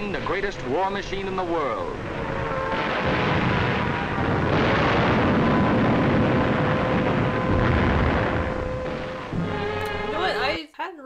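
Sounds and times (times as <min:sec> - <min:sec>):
explosions and gunfire rumble: 0:00.0 - 0:10.6.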